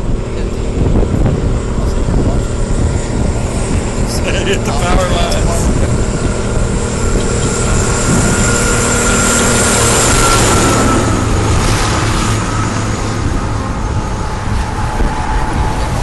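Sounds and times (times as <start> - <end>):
storm wind buffeting microphone: 0.0 - 16.0
vehicle engine running: 0.0 - 16.0.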